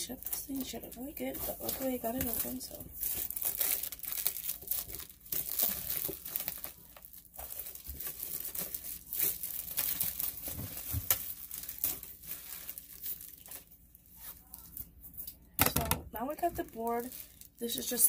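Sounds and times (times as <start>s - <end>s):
packaging crinkling and tearing: 0.0s - 15.4s, 16.2s - 18.0s.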